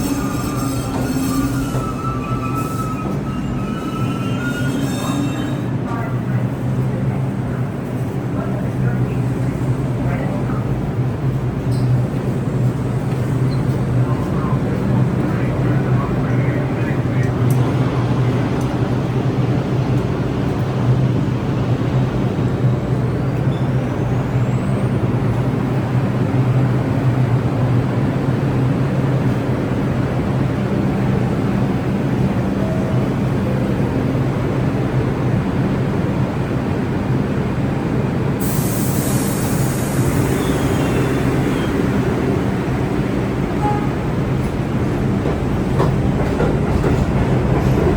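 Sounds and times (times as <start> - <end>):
subway train rumbling: 0.0 - 47.9.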